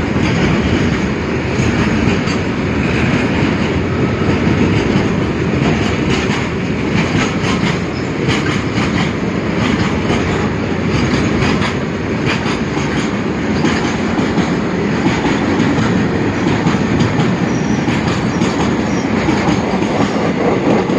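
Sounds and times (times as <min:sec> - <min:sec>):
freight train wheels rumbling: 0:00.0 - 0:20.9
train clattering over track: 0:00.0 - 0:20.9.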